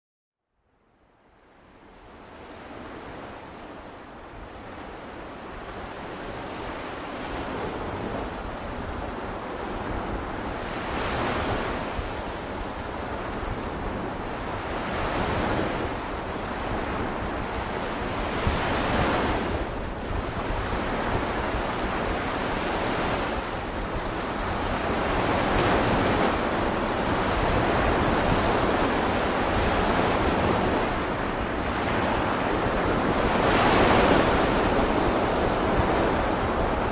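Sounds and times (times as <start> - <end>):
wind rumbling on microphone: 1.1 - 36.9
sea waves washing onto shore: 2.1 - 36.9.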